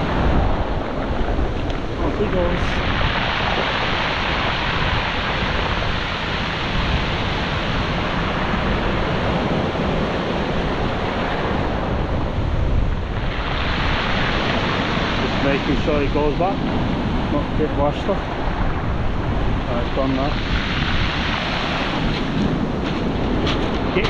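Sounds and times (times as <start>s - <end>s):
surf washing over shingle: 0.0s - 24.0s.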